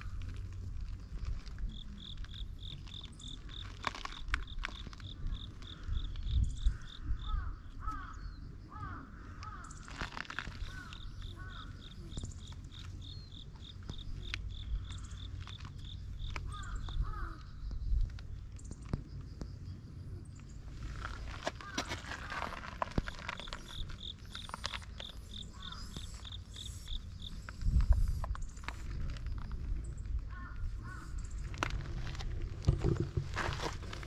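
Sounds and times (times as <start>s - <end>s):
insect chirping: 0.0s - 34.0s.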